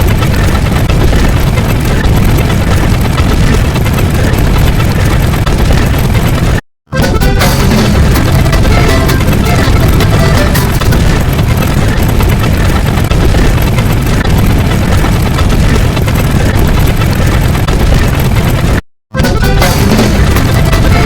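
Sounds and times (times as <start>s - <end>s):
loud dense rumbling noise: 0.0s - 21.0s.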